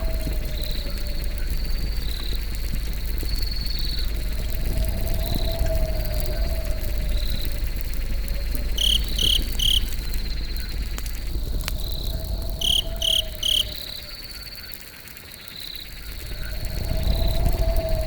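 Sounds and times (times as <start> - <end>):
low rumble: 0.0 - 14.6, 15.8 - 18.0
crickets trilling: 0.0 - 18.0.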